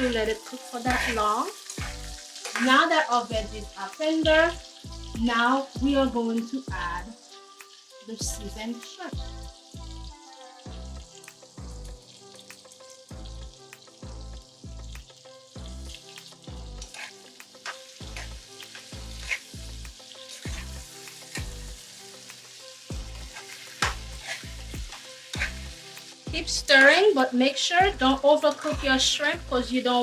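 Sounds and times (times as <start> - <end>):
background music with low beat: 0.0 - 30.0
shrimp sizzling in hot oil: 0.0 - 30.0.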